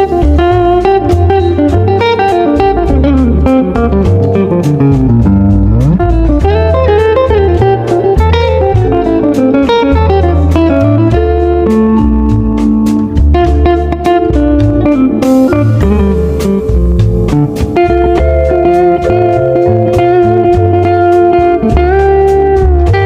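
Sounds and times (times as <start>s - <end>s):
bass line: 0.0s - 23.0s
electric guitar music: 0.0s - 23.0s
steady beat: 0.0s - 23.0s.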